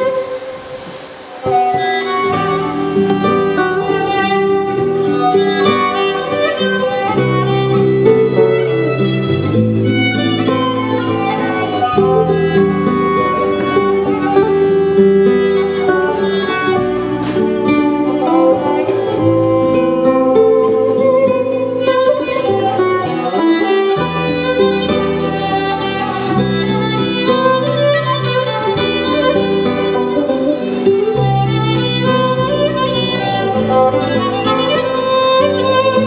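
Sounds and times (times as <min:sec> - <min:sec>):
instrumental string music: 0:00.0 - 0:36.0.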